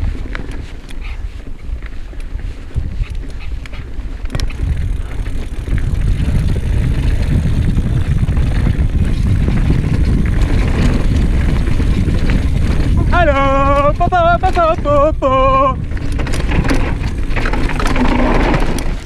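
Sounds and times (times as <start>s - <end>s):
bike tyres rolling on dirt: 0.0s - 19.0s.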